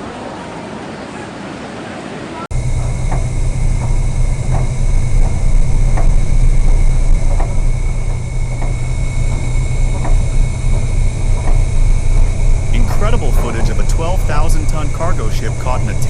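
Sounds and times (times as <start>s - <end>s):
ship machinery rumble: 2.0s - 16.0s
thin high whine: 2.5s - 16.0s
faint light ticking: 2.6s - 16.0s.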